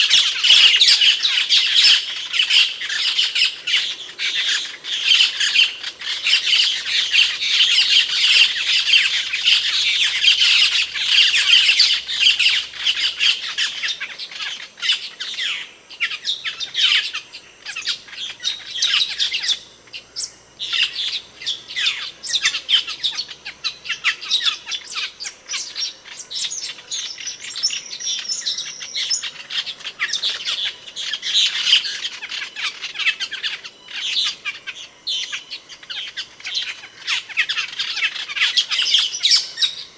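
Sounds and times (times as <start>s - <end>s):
starling calls: 0.0s - 39.9s.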